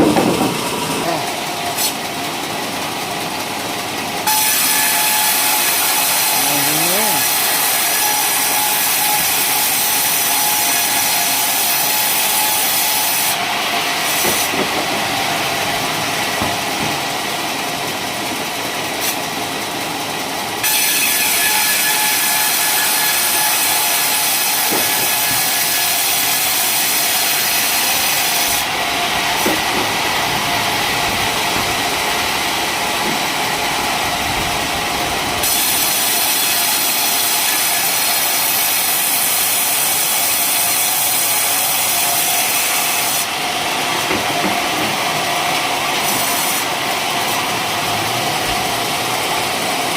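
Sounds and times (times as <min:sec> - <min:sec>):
sawmill saw cutting wood: 0:00.0 - 0:49.9.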